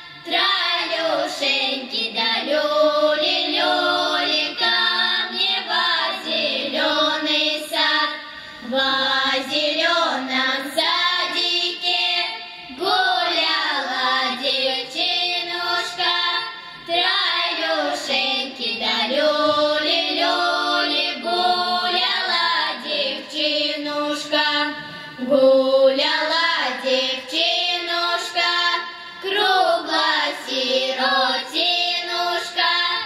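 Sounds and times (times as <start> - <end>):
girls singing unaccompanied: 0.0 - 33.0.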